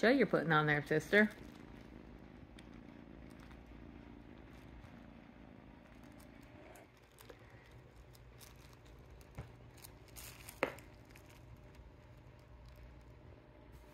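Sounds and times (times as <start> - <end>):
rustling and scratching: 1.2 - 13.9.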